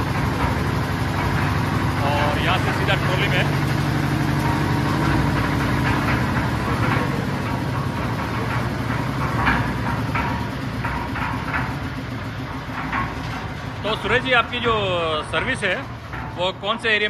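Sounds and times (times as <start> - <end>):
concrete mixer engine hum: 0.0 - 17.0
irregular clattering: 0.0 - 17.0.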